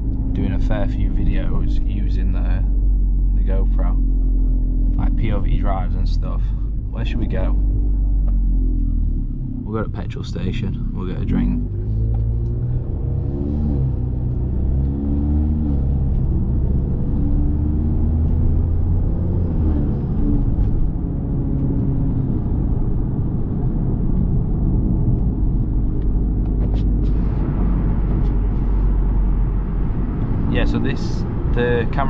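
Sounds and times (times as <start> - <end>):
car engine rumble: 0.0 - 32.0
road noise: 0.0 - 32.0.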